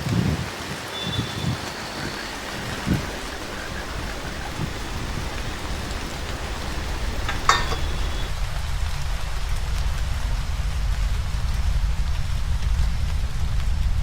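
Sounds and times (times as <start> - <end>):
steady rain falling: 1.2 - 14.0.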